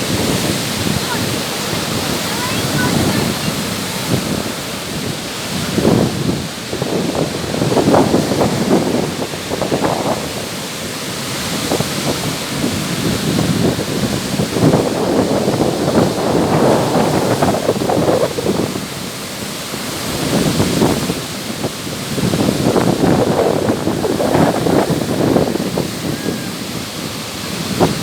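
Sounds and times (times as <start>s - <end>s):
waves washing onto shore: 0.0s - 28.0s
wind buffeting microphone: 0.0s - 28.0s.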